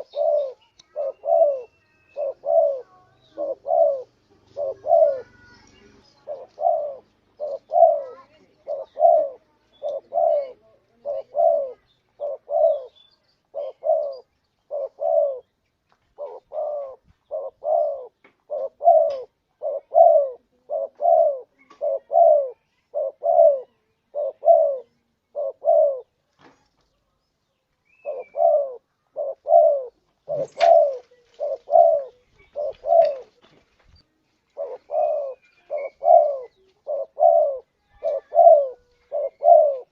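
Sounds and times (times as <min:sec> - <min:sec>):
dove cooing: 0:00.0 - 0:26.2, 0:28.0 - 0:33.5, 0:34.5 - 0:39.9.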